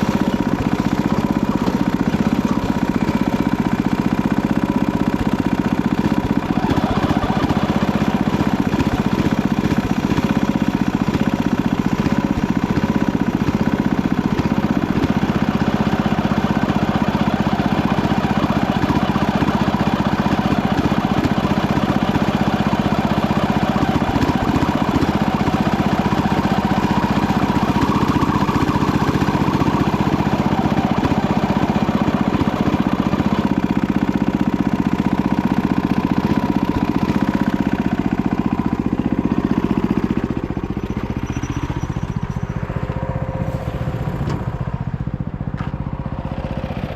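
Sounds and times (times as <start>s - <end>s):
tractor engine running under load: 0.0s - 46.9s.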